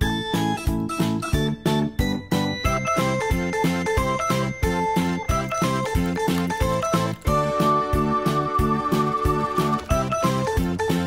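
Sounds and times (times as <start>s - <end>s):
happy music with steady beat: 0.0s - 11.0s.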